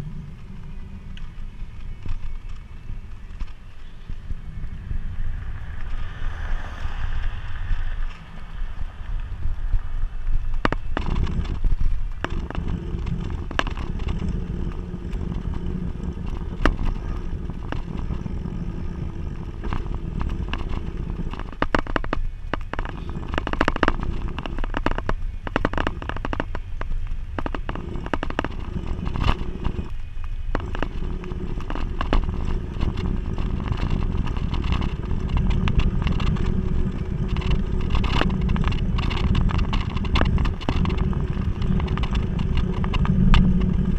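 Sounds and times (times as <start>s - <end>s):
road rumble: 0.0s - 43.9s
wind buffeting: 0.0s - 43.9s.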